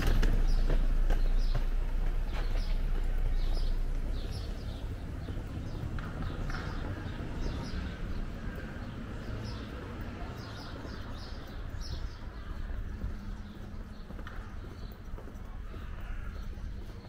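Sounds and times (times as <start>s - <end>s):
low street rumble: 0.0s - 17.0s
small birds chirping: 0.0s - 17.0s.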